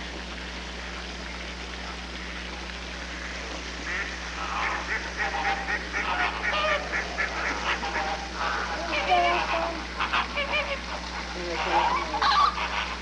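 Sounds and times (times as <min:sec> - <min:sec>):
steady low hum: 0:00.0 - 0:13.0
birds honking and quacking: 0:01.8 - 0:13.0.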